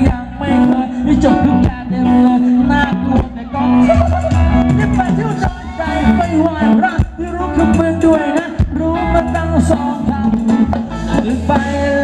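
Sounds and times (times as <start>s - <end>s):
live band playing dance song: 0.0s - 12.0s
person singing: 0.0s - 12.0s.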